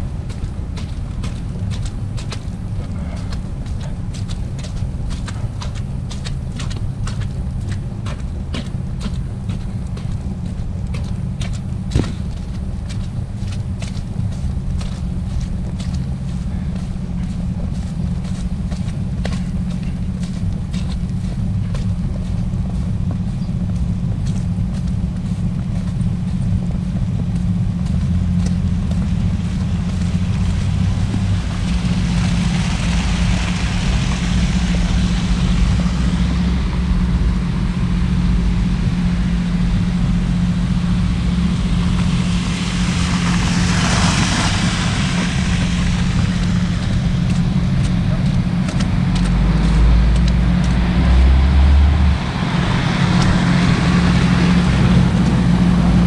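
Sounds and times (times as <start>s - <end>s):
car tyres swishing on slush: 0.0s - 23.1s, 24.3s - 56.0s
wind buffeting microphone: 0.0s - 56.0s.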